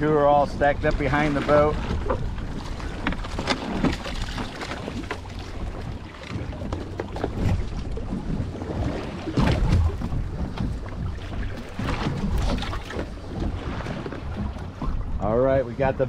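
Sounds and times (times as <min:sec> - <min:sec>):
water sloshing against hull: 0:00.0 - 0:16.0
wind buffeting microphone: 0:00.0 - 0:16.0.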